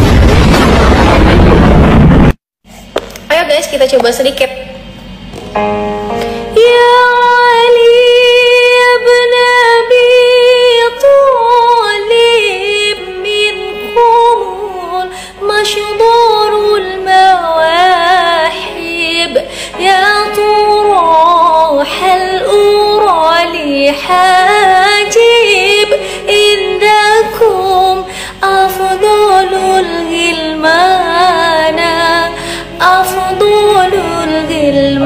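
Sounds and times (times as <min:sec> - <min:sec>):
woman singing devotional song: 0:06.5 - 0:35.0.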